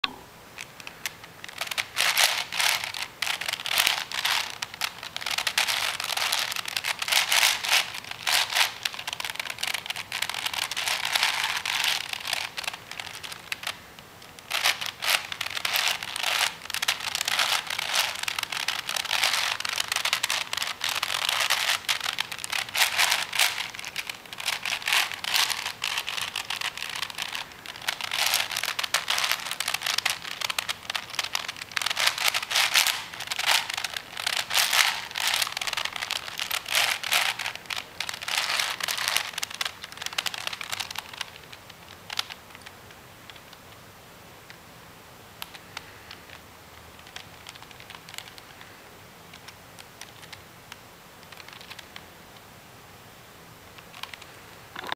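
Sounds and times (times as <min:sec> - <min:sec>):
plastic puzzle layers clicking: 0:00.0 - 0:43.7, 0:47.0 - 0:48.7, 0:51.2 - 0:52.0, 0:53.8 - 0:54.9.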